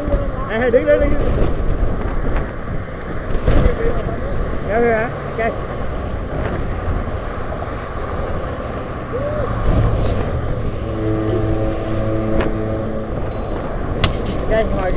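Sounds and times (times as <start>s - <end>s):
heavy vehicle engine hum: 0.0s - 14.9s
road traffic passing: 0.0s - 14.9s.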